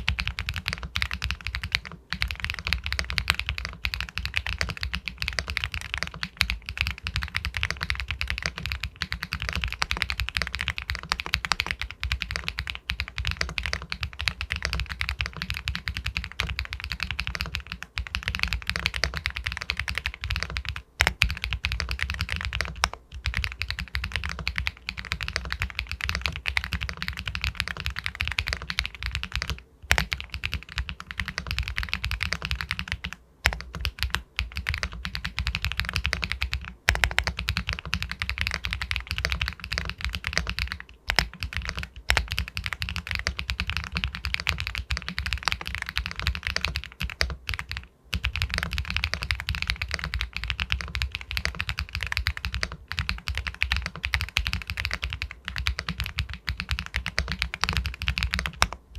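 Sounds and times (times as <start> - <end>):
fast mechanical keyboard typing: 0.0 - 58.8.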